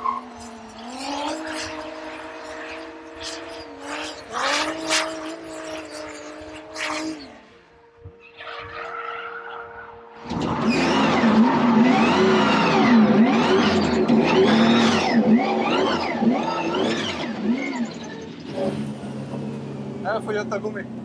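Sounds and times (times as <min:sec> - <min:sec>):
car engine revving hard: 0:00.0 - 0:07.4, 0:10.2 - 0:20.0.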